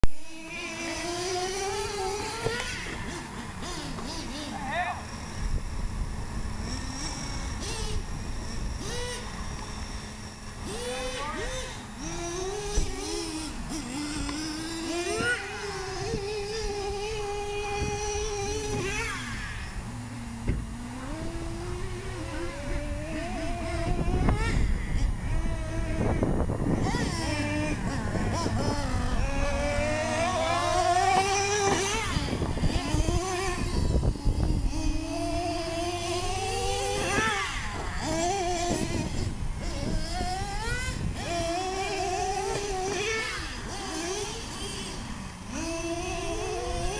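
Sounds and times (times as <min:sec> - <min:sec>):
small nitro engines whining: 0:00.0 - 0:46.9.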